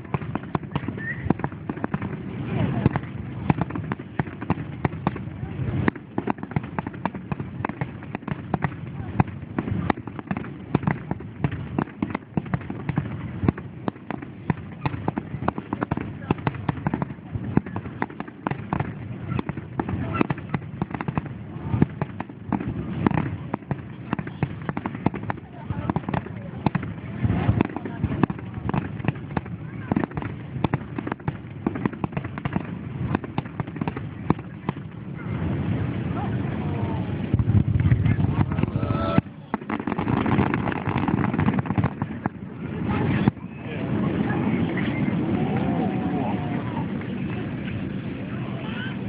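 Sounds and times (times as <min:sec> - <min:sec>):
distant fireworks bangs and pops: 0:00.0 - 0:49.0.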